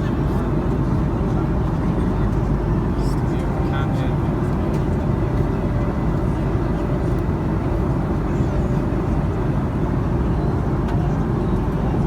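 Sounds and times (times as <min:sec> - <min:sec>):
airplane cabin roar: 0:00.0 - 0:12.0.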